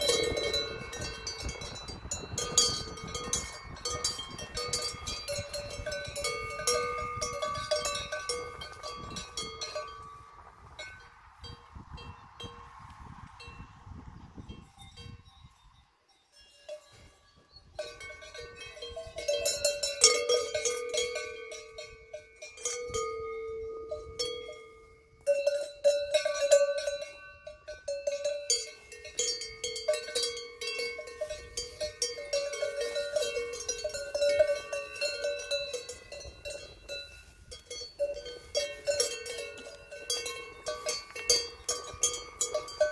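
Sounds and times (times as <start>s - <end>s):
cow bells clanking: 0.0s - 12.7s, 14.4s - 42.9s.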